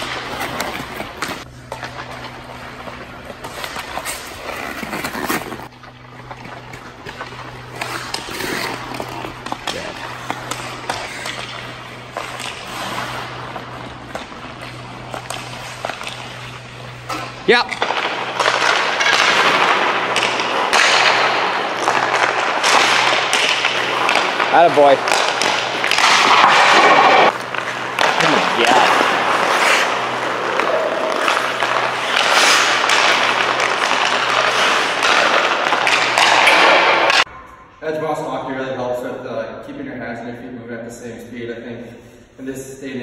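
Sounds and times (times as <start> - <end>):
steady low hum: 0.0 - 36.1
skates scraping on ice: 0.0 - 37.3
sticks clicking on pucks: 0.0 - 37.3.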